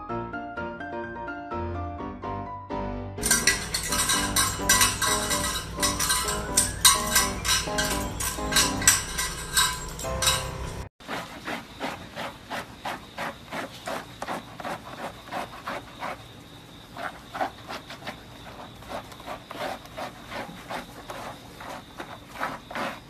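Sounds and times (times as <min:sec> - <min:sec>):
brush scrubbing wet dog fur: 0:03.2 - 0:23.0.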